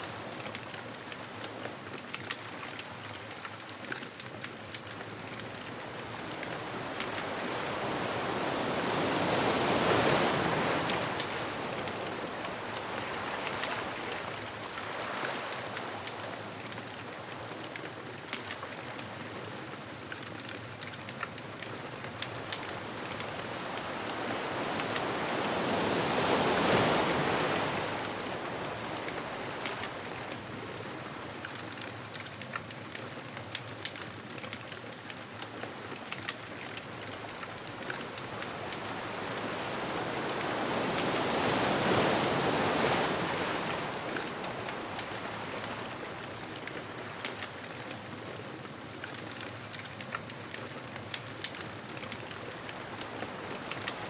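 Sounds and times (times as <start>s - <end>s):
ocean waves breaking on beach: 0.0s - 54.0s
bonfire crackling and popping: 0.1s - 8.1s, 10.1s - 54.0s.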